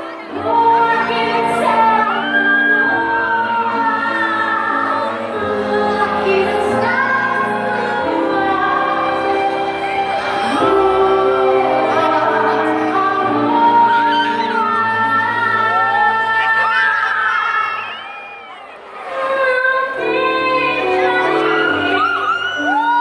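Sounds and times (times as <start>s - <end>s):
voices singing long notes: 0.0s - 18.1s, 19.0s - 23.0s.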